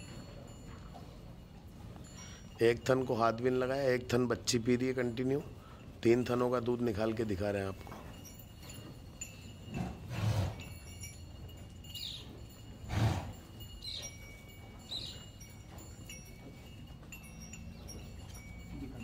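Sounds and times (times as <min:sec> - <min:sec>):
high tinkling chirps: 0:00.0 - 0:03.1, 0:03.7 - 0:19.0.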